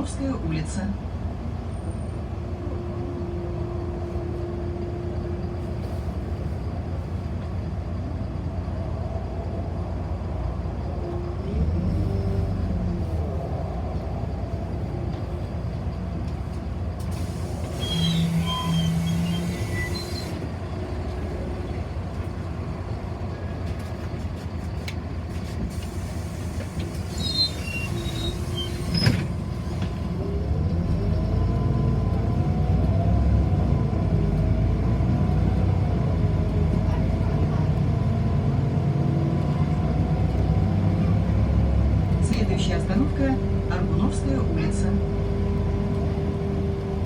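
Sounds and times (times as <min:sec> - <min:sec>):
bus cabin rumble: 0:00.0 - 0:47.0
bus drive sound rising in pitch: 0:00.0 - 0:47.0.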